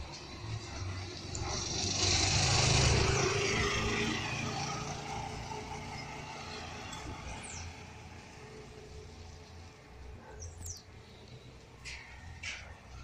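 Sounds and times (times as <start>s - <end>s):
motorcycle taxi engine hum: 0.0s - 13.0s.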